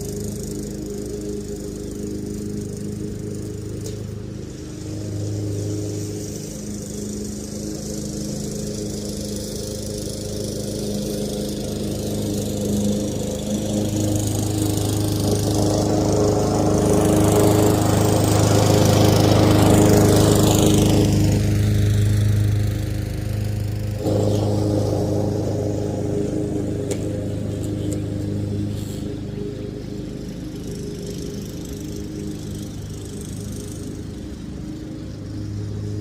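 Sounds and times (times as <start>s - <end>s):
lawn mower engine cutting grass: 0.0s - 36.0s.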